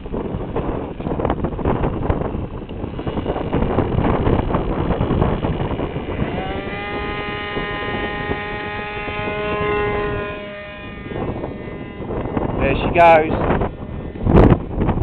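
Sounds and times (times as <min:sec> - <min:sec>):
model aircraft engine running: 0:00.0 - 0:15.0
rough buffeting noise: 0:00.0 - 0:15.0.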